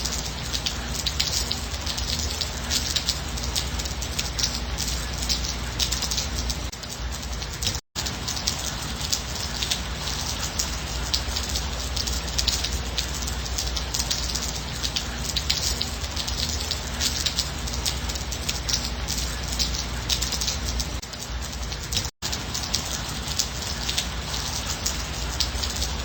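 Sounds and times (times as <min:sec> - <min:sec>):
gentle rain: 0:00.0 - 0:26.0
raindrops striking close by: 0:00.0 - 0:26.0.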